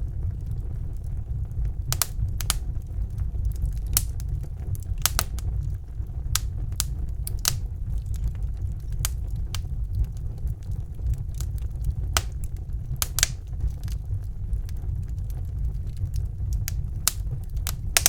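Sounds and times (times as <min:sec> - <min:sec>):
low rumble of flames: 0:00.0 - 0:18.0
wood fire crackles and pops: 0:00.0 - 0:18.0.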